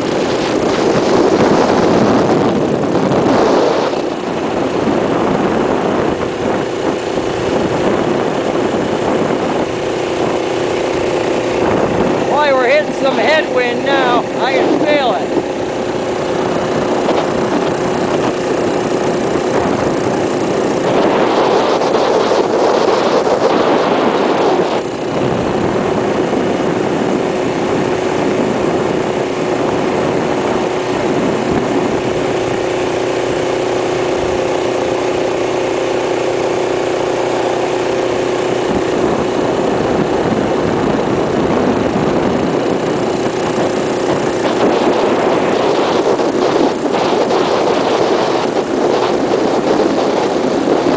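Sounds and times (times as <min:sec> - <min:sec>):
wind on microphone: 0:00.0 - 0:50.9
minibike engine running: 0:05.9 - 0:50.9.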